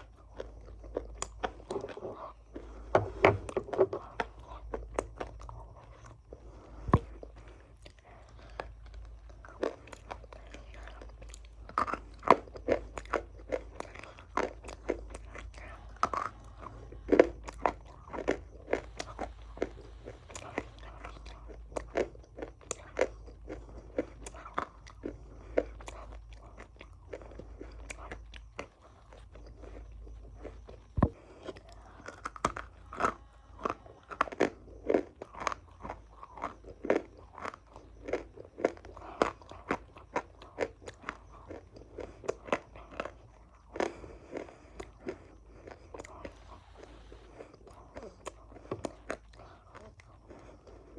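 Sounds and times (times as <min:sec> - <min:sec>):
person crunching crunchy food: 0:00.0 - 0:50.9.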